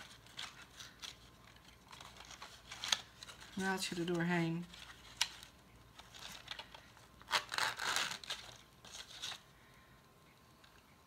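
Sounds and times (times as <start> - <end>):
paper and ribbon rustling: 0.0 - 9.5.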